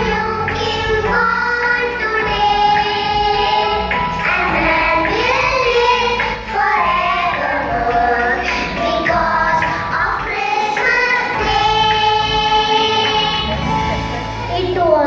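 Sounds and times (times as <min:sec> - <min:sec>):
children singing: 0:00.0 - 0:15.0.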